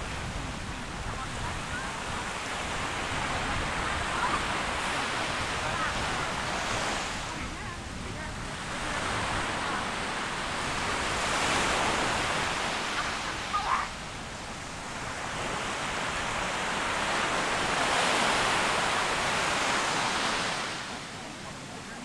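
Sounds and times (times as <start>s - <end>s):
ocean waves washing up beach: 0.0s - 22.0s.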